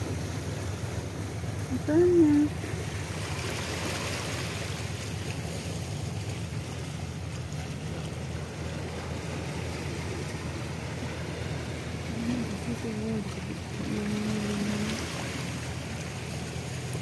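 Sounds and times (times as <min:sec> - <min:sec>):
distant ship engines: 0:00.0 - 0:17.0
water: 0:00.0 - 0:17.0
wind: 0:00.0 - 0:17.0.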